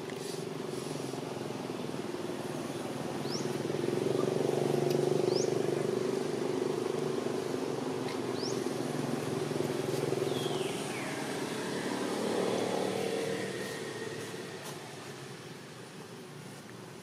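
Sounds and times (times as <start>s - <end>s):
vehicle engine droning: 0.2s - 15.9s.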